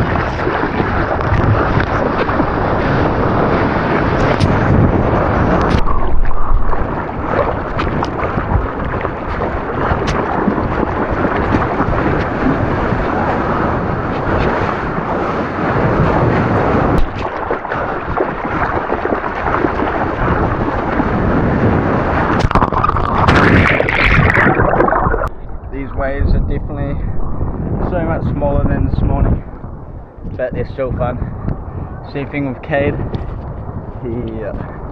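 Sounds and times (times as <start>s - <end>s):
rushing surf: 0.0s - 29.7s
wind buffeting microphone: 0.0s - 34.9s.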